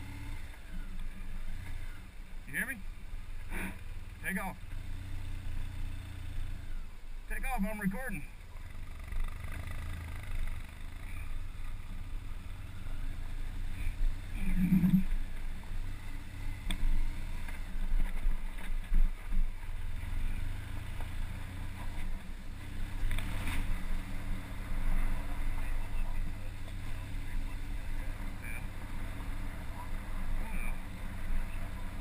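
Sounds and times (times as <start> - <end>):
off-road vehicle engine rumbling: 0.0 - 32.0.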